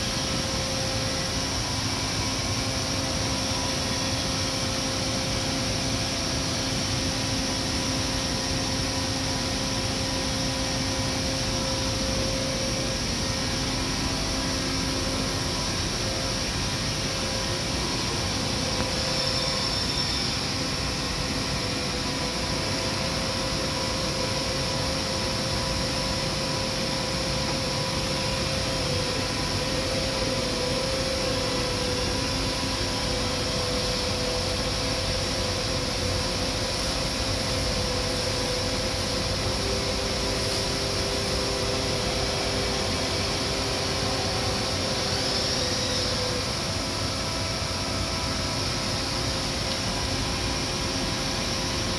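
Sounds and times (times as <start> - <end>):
machinery and air handling drone: 0.0 - 51.9.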